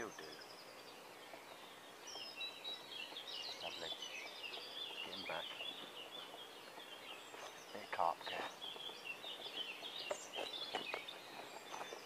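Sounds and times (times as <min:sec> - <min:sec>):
songbird twittering: 0:00.0 - 0:12.0.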